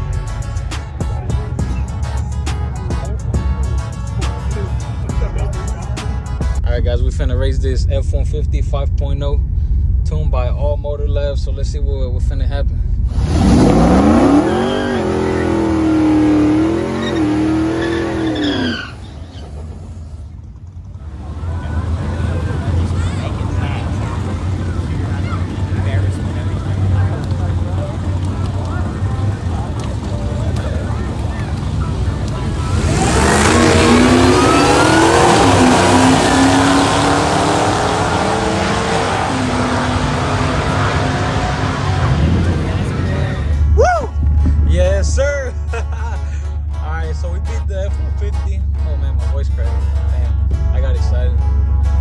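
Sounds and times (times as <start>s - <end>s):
trucks accelerating at full throttle: 0.0s - 6.7s, 13.0s - 52.0s.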